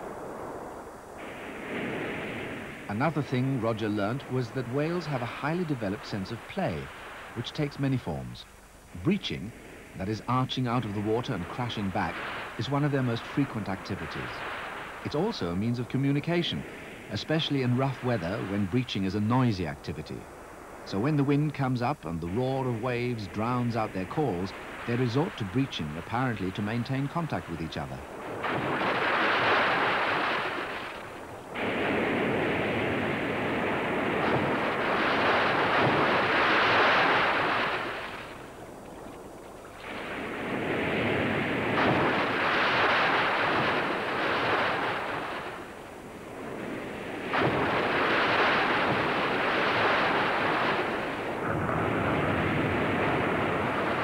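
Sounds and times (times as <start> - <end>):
whales splashing: 0.0 - 8.3, 9.0 - 19.1, 20.2 - 54.0
choppy water: 0.0 - 54.0
wind: 0.0 - 54.0.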